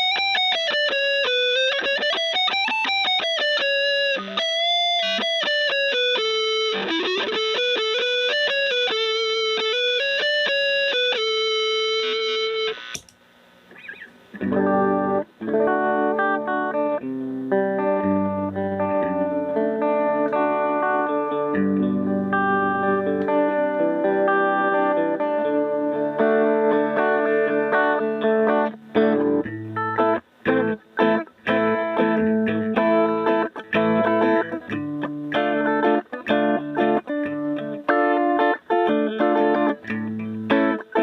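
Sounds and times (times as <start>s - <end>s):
distorted electric guitar lead: 0.0s - 41.0s
electric guitar chords and riffs: 0.0s - 41.0s.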